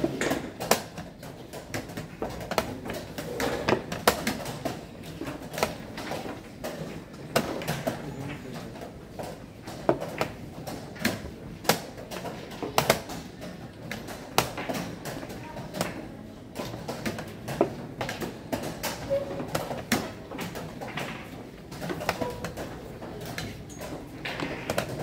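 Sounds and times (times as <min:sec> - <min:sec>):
chess pieces knocking on board: 0:00.0 - 0:25.0.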